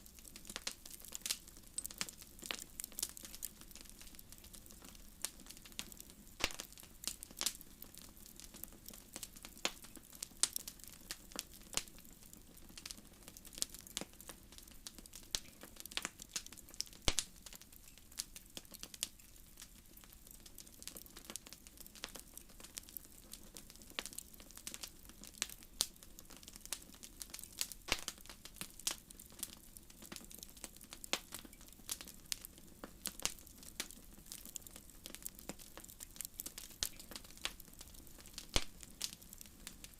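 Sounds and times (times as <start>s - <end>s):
faint steady background noise: 0.0s - 39.9s
wood fire crackling: 0.0s - 39.9s.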